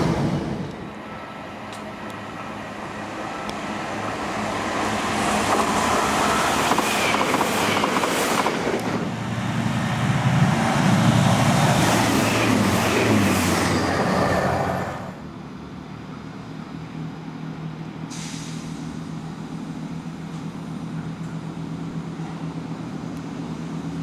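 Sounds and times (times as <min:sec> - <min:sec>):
diesel train approaching: 0:00.0 - 0:24.0.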